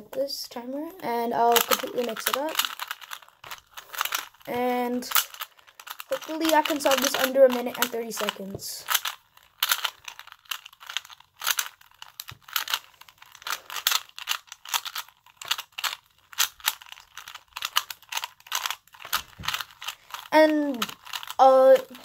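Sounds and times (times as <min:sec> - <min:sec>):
puzzle cube clicking and rattling: 0:00.5 - 0:22.0.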